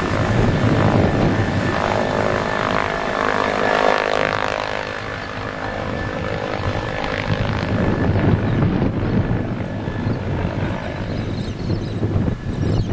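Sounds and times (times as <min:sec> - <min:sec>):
helicopter rotor throb: 0:00.0 - 0:12.9.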